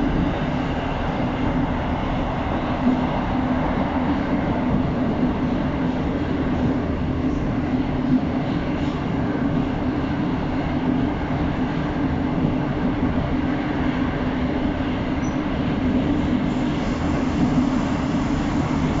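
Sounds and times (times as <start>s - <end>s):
metro train wheels rumbling: 0.0s - 19.0s.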